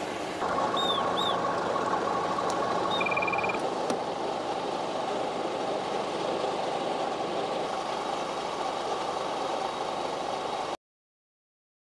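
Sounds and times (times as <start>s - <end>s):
vehicle engine idling: 0.0s - 10.8s.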